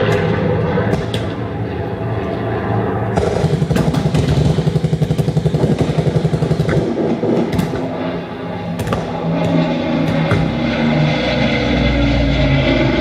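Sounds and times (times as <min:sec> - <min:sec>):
low throbbing engine sound: 0:00.0 - 0:13.0.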